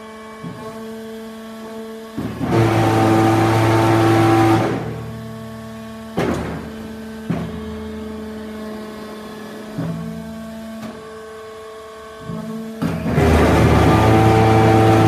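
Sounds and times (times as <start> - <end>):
hydraulic power pack humming: 0.0 - 15.0.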